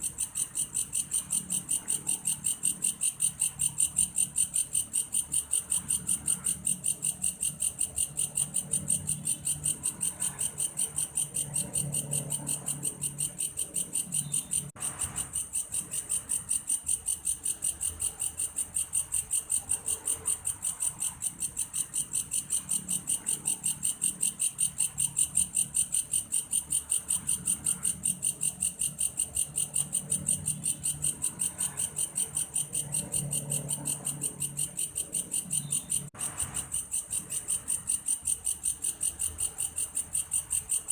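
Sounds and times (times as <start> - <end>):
grasshopper chirping: 0.0 - 40.9.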